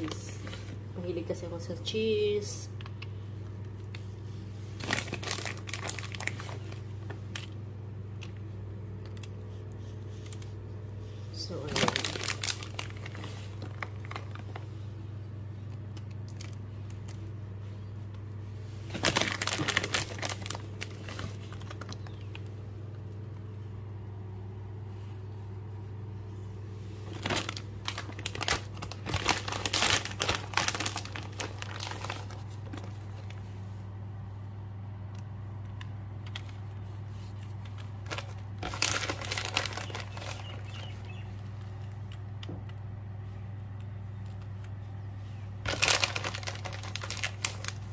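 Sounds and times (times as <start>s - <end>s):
steady low hum: 0.0s - 47.9s
crinkling and rustling of cheese: 2.7s - 47.9s.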